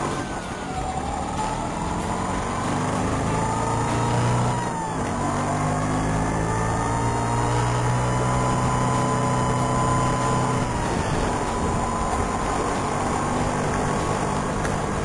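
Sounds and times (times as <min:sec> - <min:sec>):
siren-like whistle wail: 0:00.0 - 0:13.6
scooter engine running: 0:00.0 - 0:15.0.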